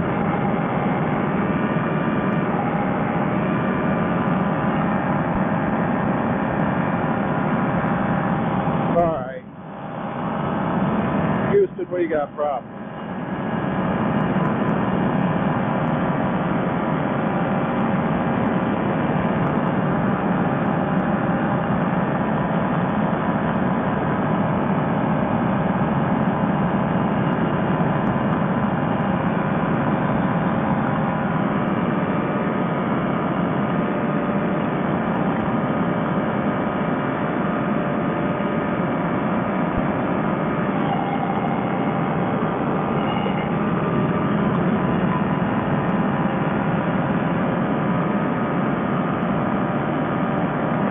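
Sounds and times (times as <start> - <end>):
paramotor engine and propeller: 0.0 - 50.9
wind: 0.0 - 50.9.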